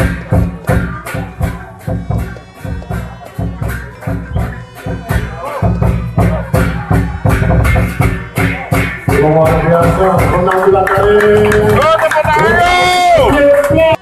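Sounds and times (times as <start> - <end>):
fast drum and cymbal beat: 0.0 - 14.0
held melodic tones: 0.0 - 14.0.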